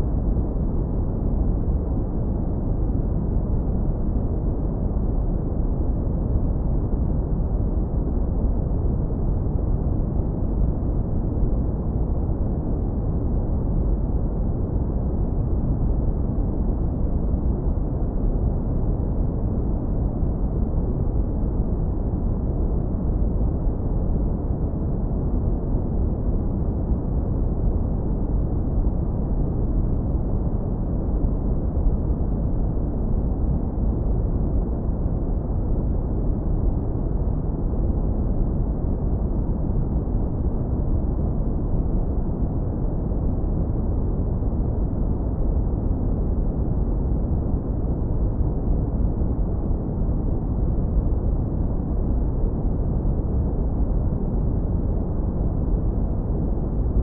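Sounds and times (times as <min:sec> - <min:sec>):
deep brown noise rumble: 0:00.0 - 0:57.0.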